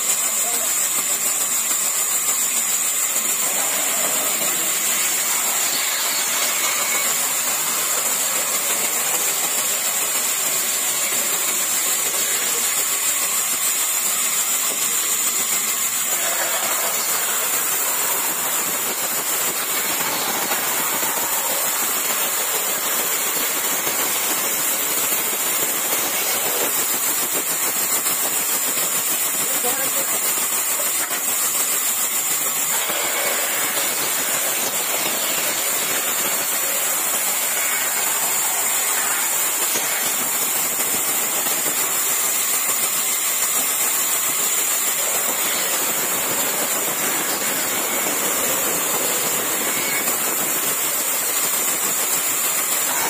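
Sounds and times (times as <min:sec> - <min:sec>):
band saw cutting timber: 0:00.0 - 0:53.0.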